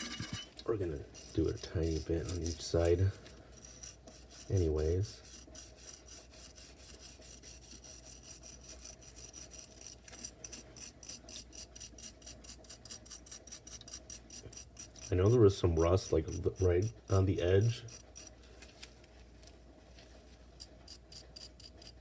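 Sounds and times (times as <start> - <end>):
brush scrubbing metal blade: 0.0 - 18.4, 20.6 - 22.0.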